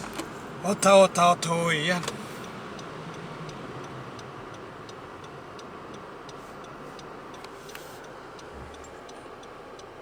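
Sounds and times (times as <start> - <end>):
car engine hum: 0.0 - 10.0
car indicator relay ticking: 0.0 - 10.0.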